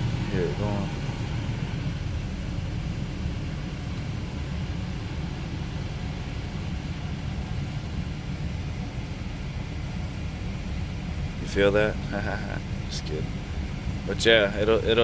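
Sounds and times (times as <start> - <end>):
blower fan rumble: 0.0 - 15.0
car engine idling: 0.0 - 15.0.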